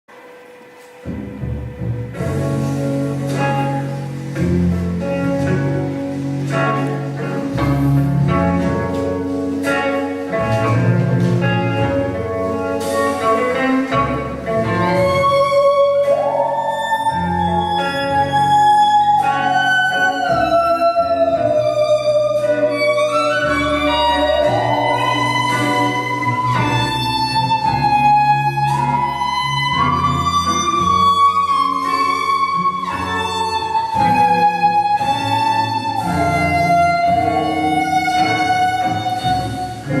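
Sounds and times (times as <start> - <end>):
jazz band music: 0.1 - 40.0.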